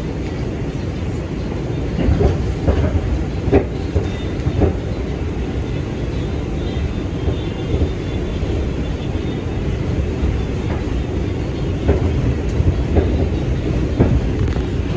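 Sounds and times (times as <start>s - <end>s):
subway train rumbling: 0.0s - 14.9s.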